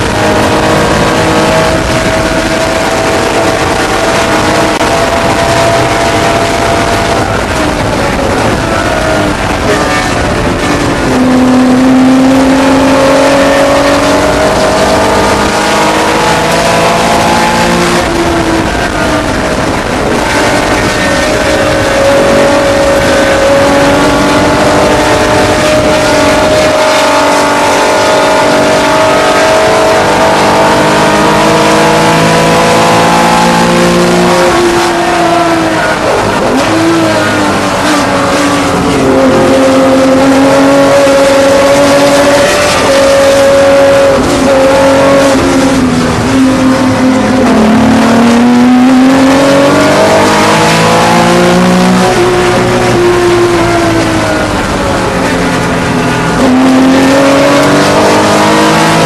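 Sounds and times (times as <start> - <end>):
racing engine running hard: 0.0 - 59.0.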